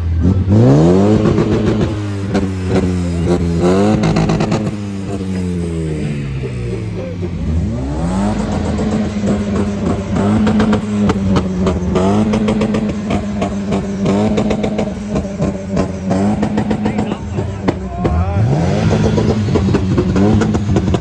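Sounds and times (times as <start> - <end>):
car engine revving: 0.0 - 21.0
rev limiter crackle: 0.5 - 21.0.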